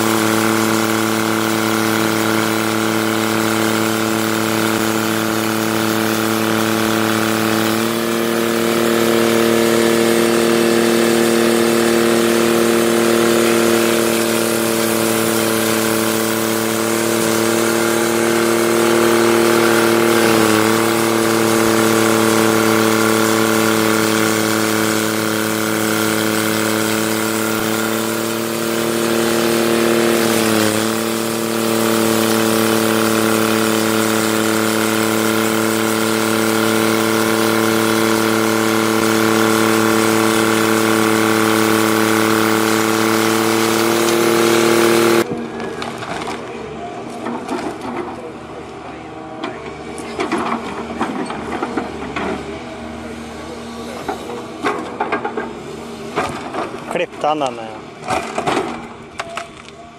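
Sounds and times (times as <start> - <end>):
heavy machine engine running: 0.0 - 59.9.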